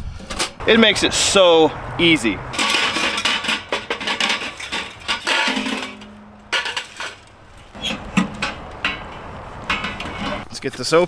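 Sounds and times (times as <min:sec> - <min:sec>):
metallic clinks and rattles: 0:00.6 - 0:10.4.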